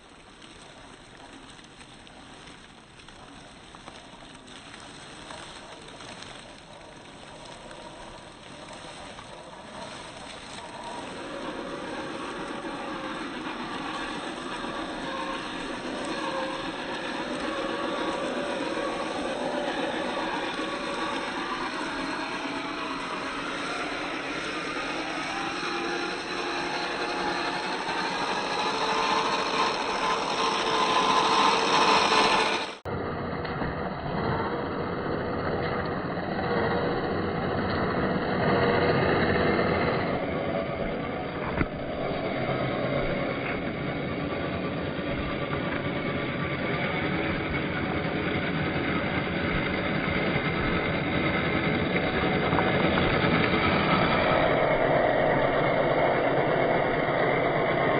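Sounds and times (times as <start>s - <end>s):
electric motor and gears whirring: 0.0s - 57.9s
tyres on rough ground: 0.0s - 57.9s.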